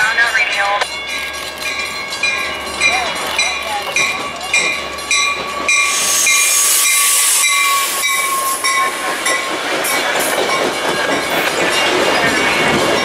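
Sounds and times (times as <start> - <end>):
train wheels rushing over rails: 1.2 - 13.0.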